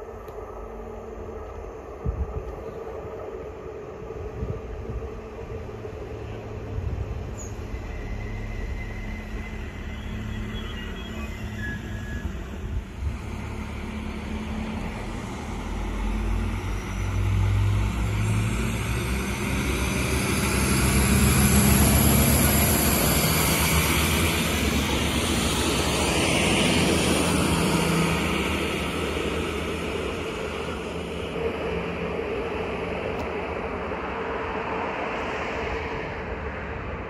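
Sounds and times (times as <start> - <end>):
diesel train engines droning: 0.0 - 37.0
wheels rumbling on rails: 0.0 - 37.0.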